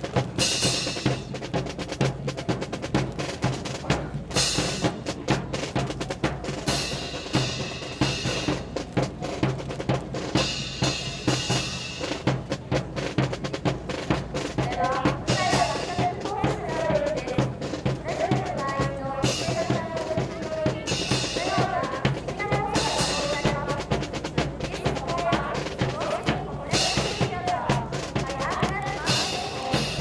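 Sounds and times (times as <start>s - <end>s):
drum-heavy music: 0.0s - 30.0s.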